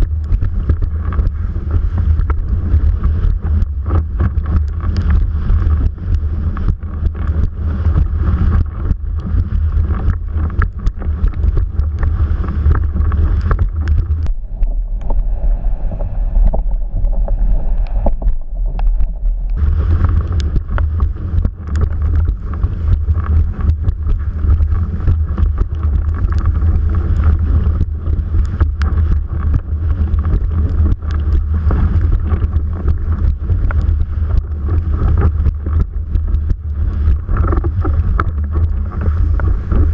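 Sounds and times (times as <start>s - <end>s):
board rushing through choppy water: 0.0s - 39.9s
wind buffeting microphone: 0.0s - 39.9s.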